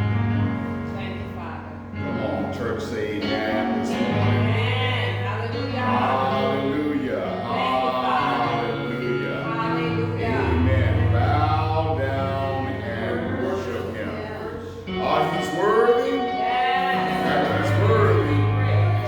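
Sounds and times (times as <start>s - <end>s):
held bass notes: 0.0s - 19.0s
gospel voices singing: 2.0s - 19.0s.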